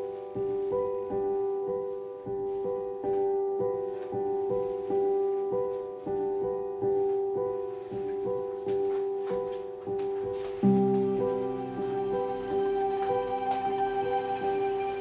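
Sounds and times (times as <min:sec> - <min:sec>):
gentle piano repeated notes: 0:00.0 - 0:15.0.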